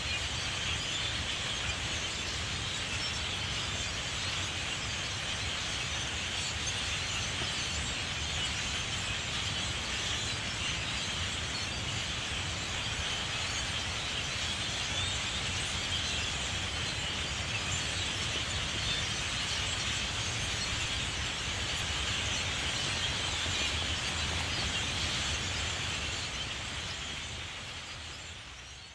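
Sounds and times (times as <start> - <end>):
chorus of birds calling: 0.0 - 28.9.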